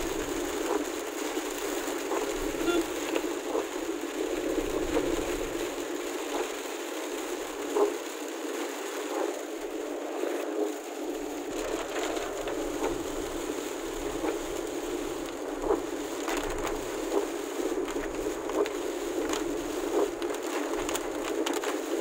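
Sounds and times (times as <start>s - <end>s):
heavy rain on windshield: 0.0s - 22.0s
sharp ticks of raindrops: 0.0s - 22.0s.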